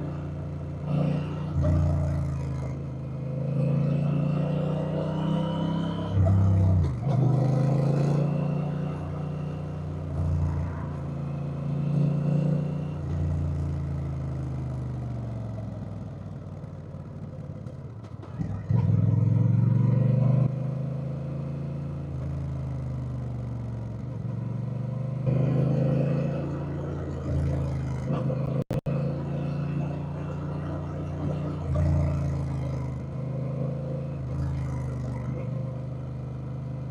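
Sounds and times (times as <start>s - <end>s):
motorcycle engine revving: 0.0s - 16.6s, 17.2s - 36.9s.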